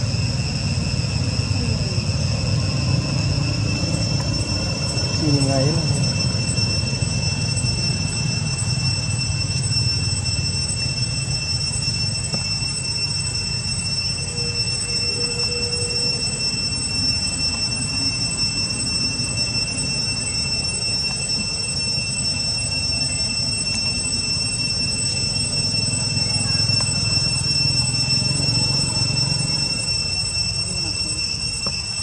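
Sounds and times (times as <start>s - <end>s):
brief lower tone: 0.0s - 32.0s
steady high-pitched whine: 0.0s - 32.0s.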